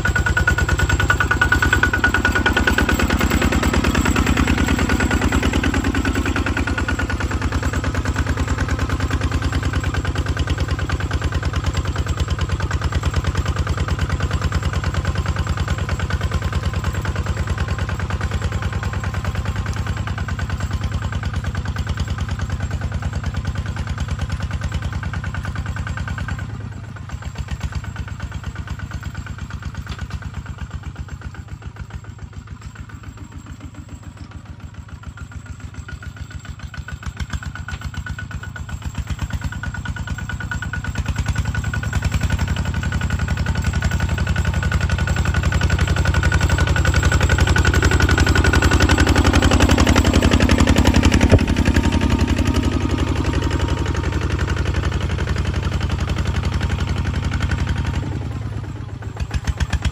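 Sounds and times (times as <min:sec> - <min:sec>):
diesel tractor engine thudding: 0:00.0 - 0:59.9.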